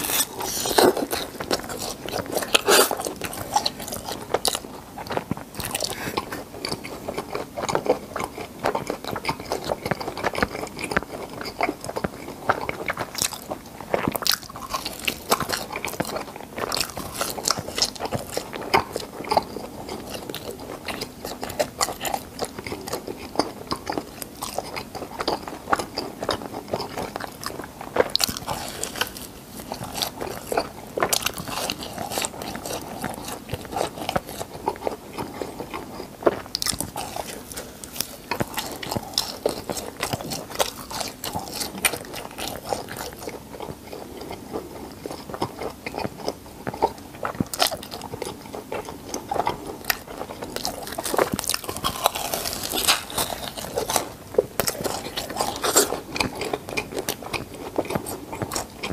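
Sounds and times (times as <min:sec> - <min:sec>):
crunchy chewing: 0:00.0 - 0:58.9.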